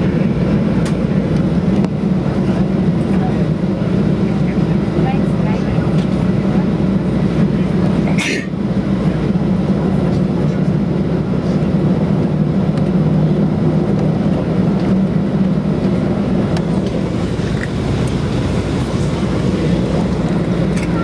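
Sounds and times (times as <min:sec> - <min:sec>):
aircraft engines low hum: 0:00.0 - 0:21.0.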